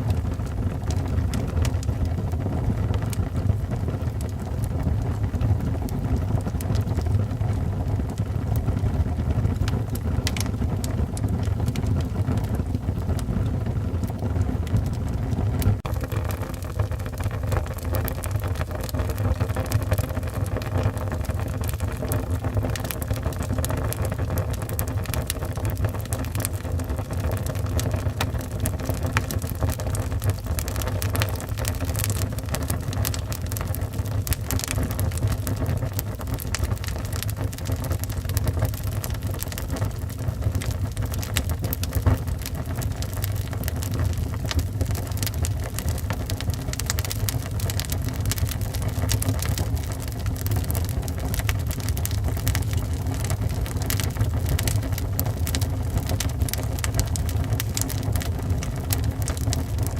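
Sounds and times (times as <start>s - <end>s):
fire rumbling: 0.0s - 59.9s
wood crackling and popping: 0.0s - 59.9s.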